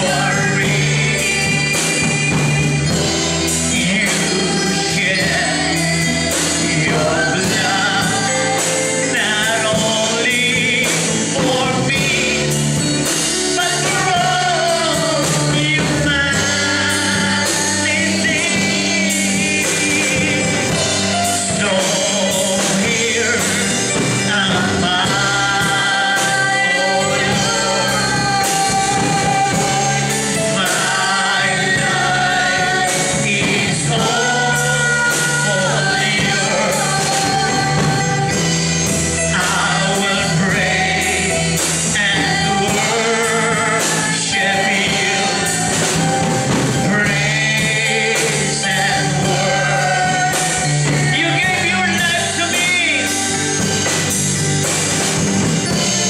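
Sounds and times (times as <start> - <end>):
instrumental accompaniment with beat: 0.0 - 56.0
man singing gospel song: 0.0 - 56.0.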